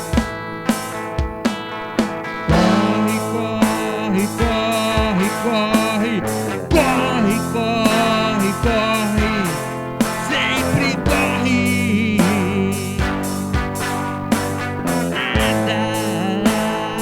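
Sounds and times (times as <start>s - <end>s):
rock song with guitars and drums: 0.0s - 17.0s.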